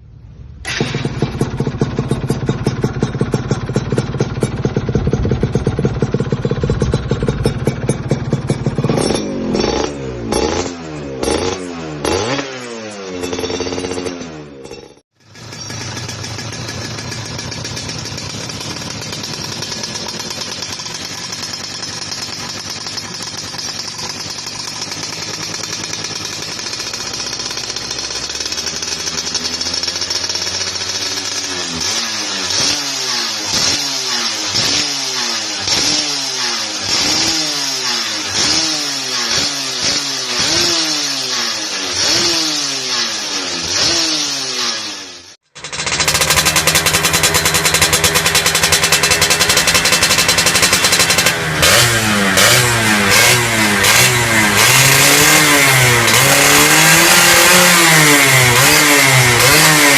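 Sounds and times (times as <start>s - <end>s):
two-stroke engine revving: 0.6s - 59.9s.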